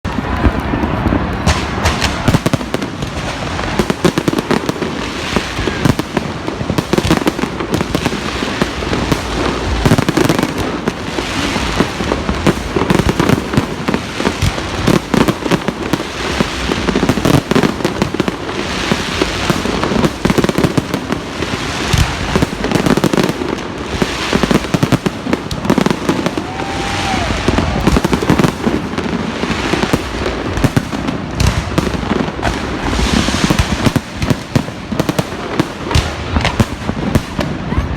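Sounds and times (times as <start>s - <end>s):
fireworks banging and crackling: 0.0s - 37.9s.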